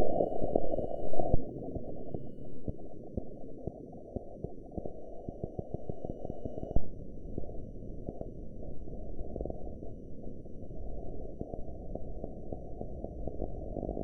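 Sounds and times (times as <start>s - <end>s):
crackles and pops: 0.0s - 14.0s.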